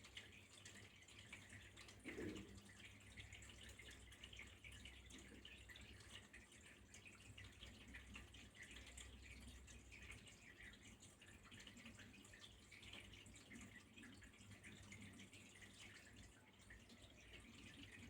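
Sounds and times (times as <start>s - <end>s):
water trickling and dripping: 0.0s - 18.0s.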